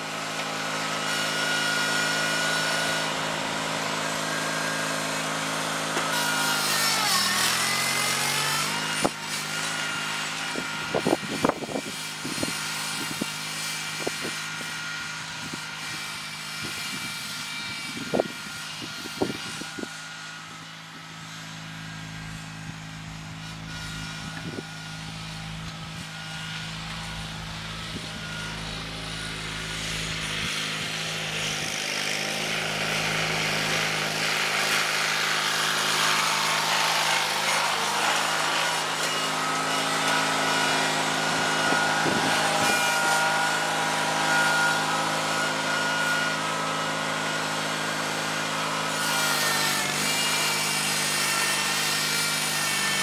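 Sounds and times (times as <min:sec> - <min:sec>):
garden tractor engine under load: 0:00.0 - 0:53.0.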